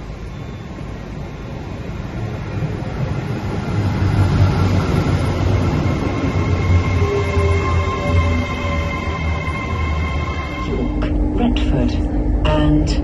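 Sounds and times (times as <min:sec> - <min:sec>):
high-speed train rumbling past: 0:00.0 - 0:13.0.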